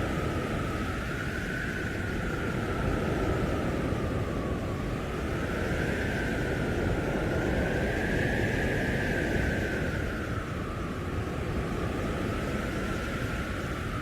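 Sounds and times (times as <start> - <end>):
blizzard wind howling: 0.0 - 14.0.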